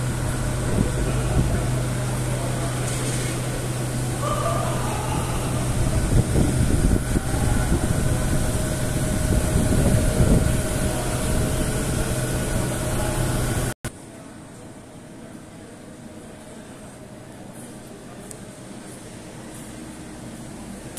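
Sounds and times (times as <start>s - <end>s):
steady low hum: 0.0s - 20.9s
traffic rumble: 0.0s - 20.9s.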